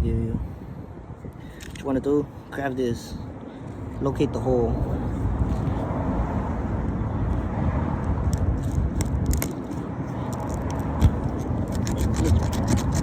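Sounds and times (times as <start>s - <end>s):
low outdoor rumble: 0.0s - 13.0s
tools clicking and scraping on tire: 1.3s - 2.6s, 3.6s - 13.0s.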